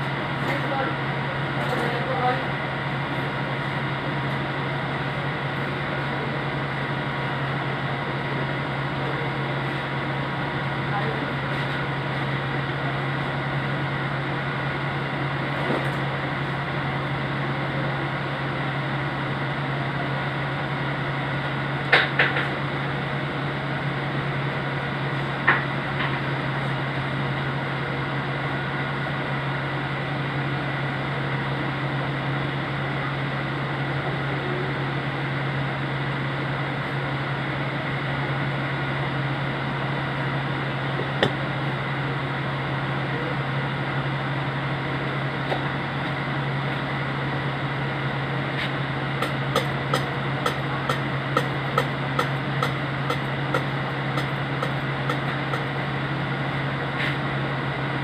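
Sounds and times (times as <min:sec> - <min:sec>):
electrical hum with fan noise: 0:00.0 - 0:58.0.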